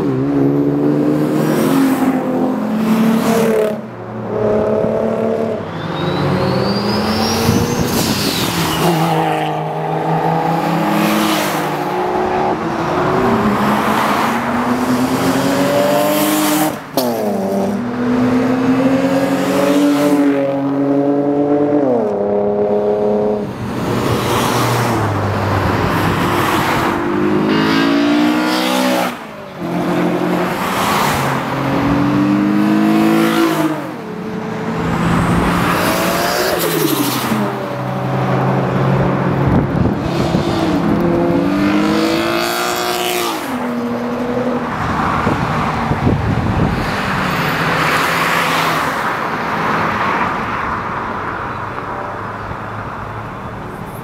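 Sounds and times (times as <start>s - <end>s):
cars accelerating hard: 0.0s - 50.8s.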